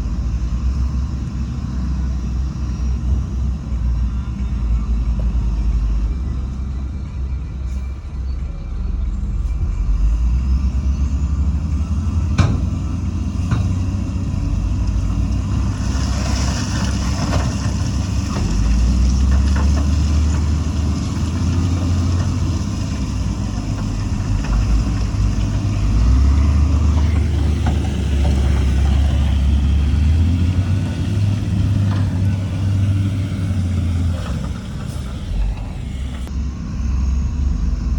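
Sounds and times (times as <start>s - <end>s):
diesel machinery engine running: 0.0s - 37.9s.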